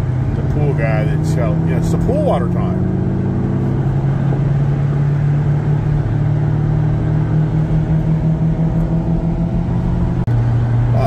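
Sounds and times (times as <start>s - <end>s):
car engine and exhaust drone: 0.0s - 11.0s.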